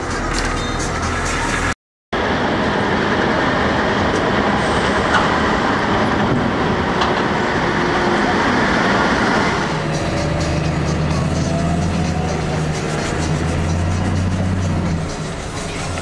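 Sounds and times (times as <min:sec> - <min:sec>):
log handler machine running: 0:00.0 - 0:16.0.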